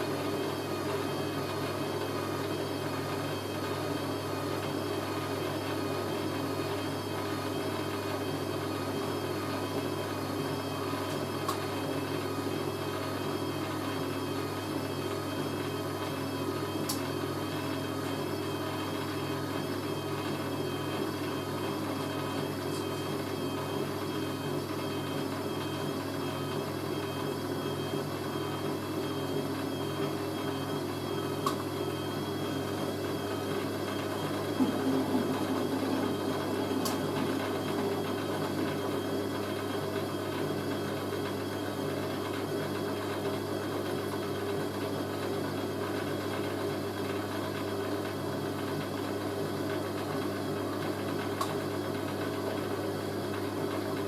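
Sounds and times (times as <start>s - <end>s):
washing machine drain pump humming: 0.0s - 54.0s.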